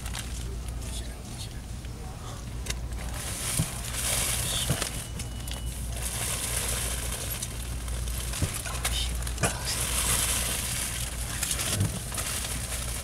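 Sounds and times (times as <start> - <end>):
plastic wrapping rustling: 0.0 - 0.9, 2.6 - 13.0
steady low hum: 0.0 - 13.0.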